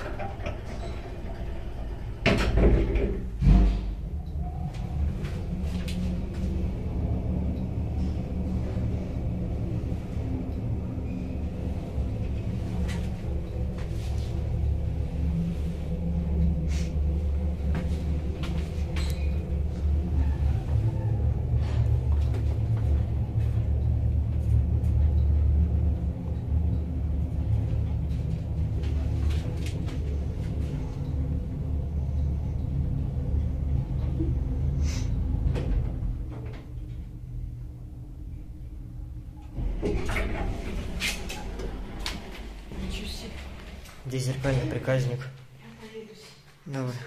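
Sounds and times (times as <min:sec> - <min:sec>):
lift cab rumbling in shaft: 0:00.0 - 0:45.6.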